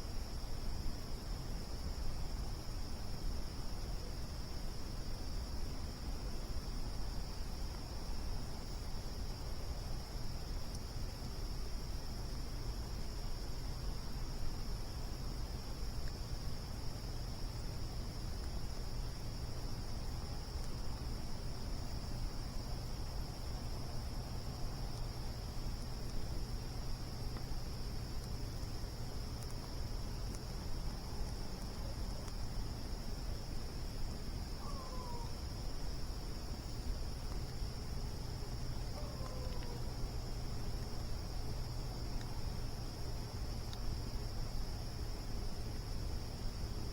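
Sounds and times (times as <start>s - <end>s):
crickets chirring: 0.0s - 46.9s.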